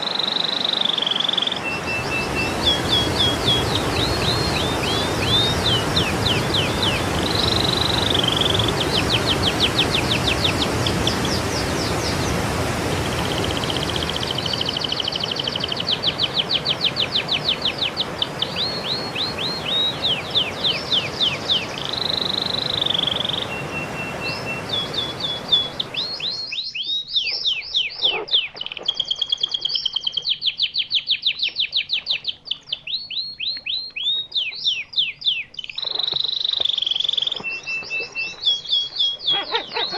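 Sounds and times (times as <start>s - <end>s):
songbird singing trills: 0.2s - 12.4s, 13.1s - 39.9s.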